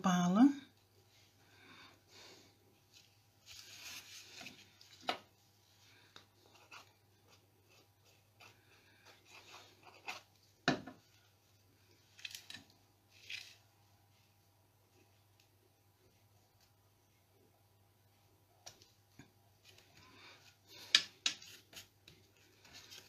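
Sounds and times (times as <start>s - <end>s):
soft paper rustling: 2.7s - 16.8s, 18.6s - 23.0s.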